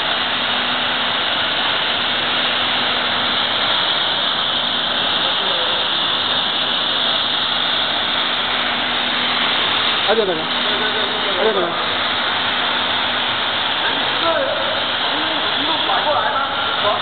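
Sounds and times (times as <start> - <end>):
low machine hum: 0.0 - 17.0
steady machine hiss: 0.0 - 17.0.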